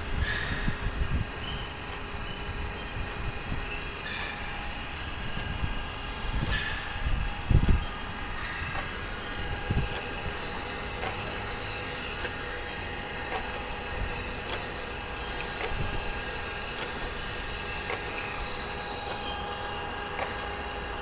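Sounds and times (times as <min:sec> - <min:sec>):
grinder machine hum: 0:00.0 - 0:21.0.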